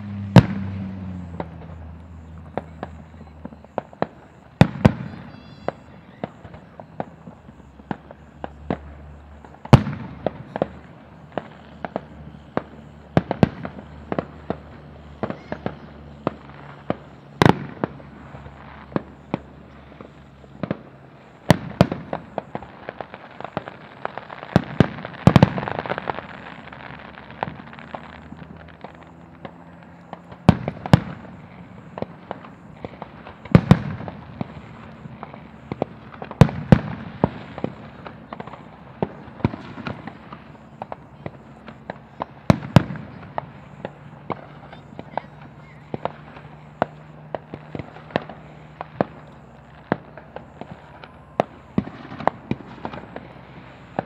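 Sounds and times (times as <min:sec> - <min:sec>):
fireworks bangs and booms: 0:00.0 - 0:54.0
fireworks crackling: 0:00.0 - 0:54.0.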